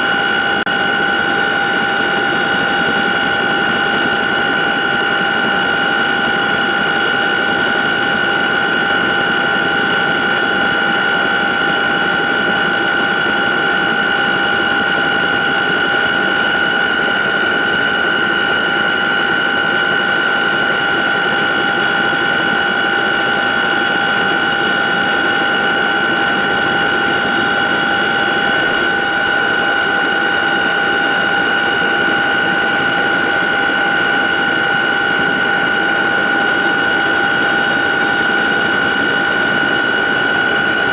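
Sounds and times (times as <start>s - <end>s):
helicopter turbine engines: 0.0s - 40.9s
high-pitched whine: 0.0s - 40.9s.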